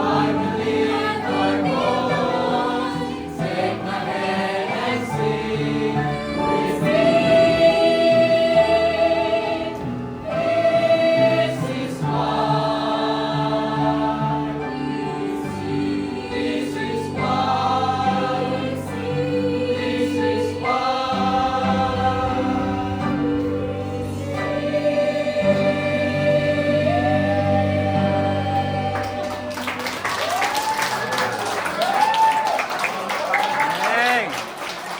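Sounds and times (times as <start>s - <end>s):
choir singing slow piece: 0.0s - 33.2s.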